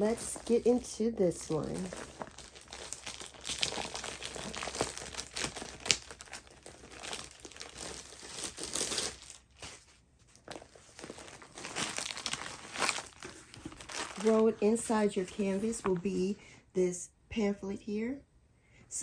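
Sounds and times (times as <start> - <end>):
plastic packaging crinkling: 0.0 - 16.3.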